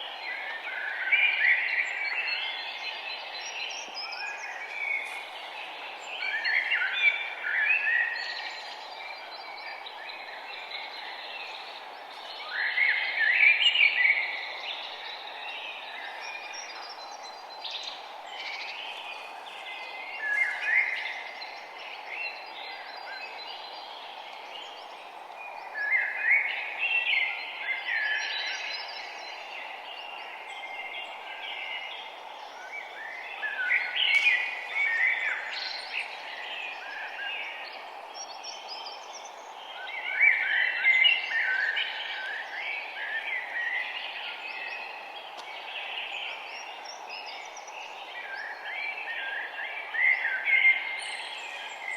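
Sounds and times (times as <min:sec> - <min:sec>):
background hiss: 0:00.0 - 0:51.9
songbirds chirping and singing: 0:00.0 - 0:51.9.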